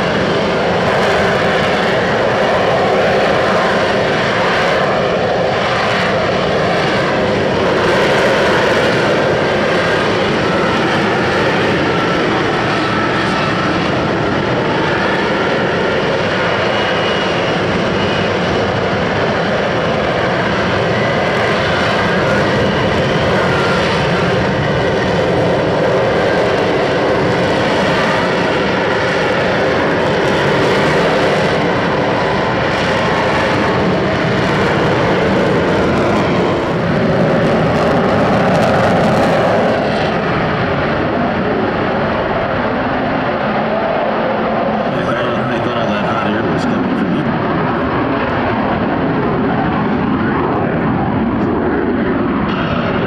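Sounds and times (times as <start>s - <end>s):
jet engine roaring: 0.0s - 53.0s.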